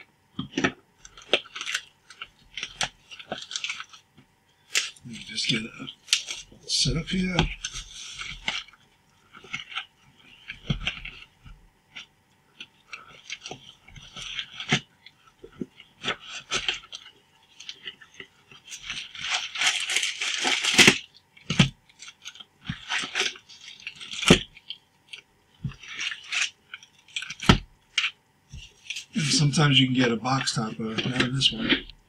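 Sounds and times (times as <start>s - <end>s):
cellophane crinkling and tearing: 0.5s - 32.0s.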